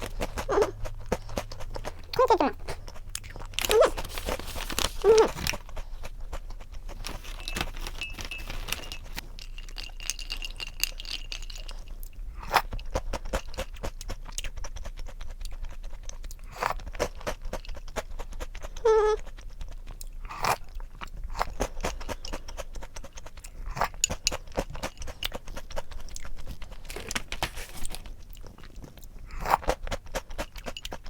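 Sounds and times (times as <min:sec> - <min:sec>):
crunchy food being chewed: 0:00.0 - 0:31.0.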